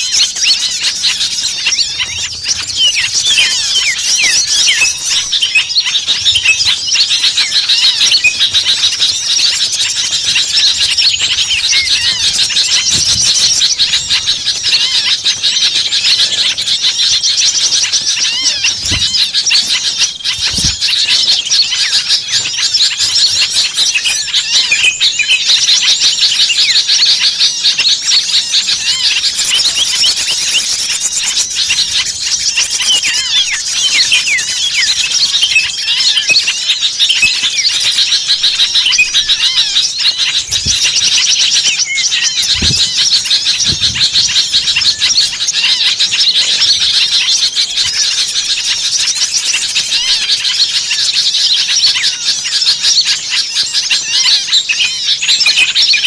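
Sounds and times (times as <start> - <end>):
small songbirds chirping and twittering: 0.0 - 56.0.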